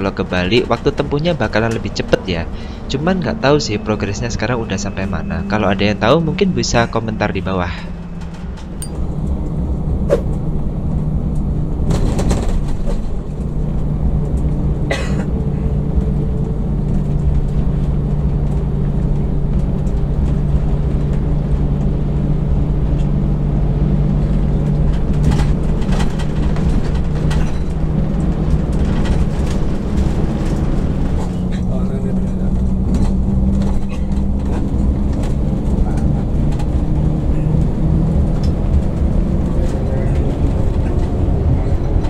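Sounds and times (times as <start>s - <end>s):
bus engine drone: 0.0s - 42.0s
road noise: 0.0s - 42.0s.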